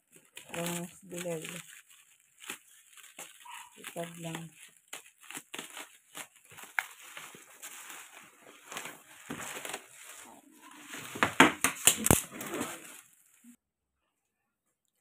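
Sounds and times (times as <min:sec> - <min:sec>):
plastic wrap crinkling: 0:00.0 - 0:13.6.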